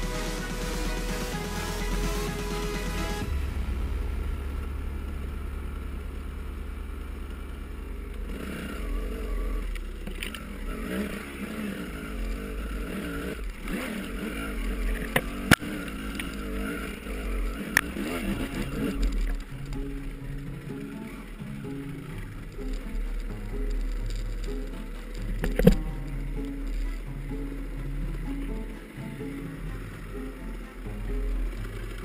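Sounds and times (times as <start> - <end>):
low rumble: 0.0 - 32.0
motorcycle engine revving: 0.0 - 32.0.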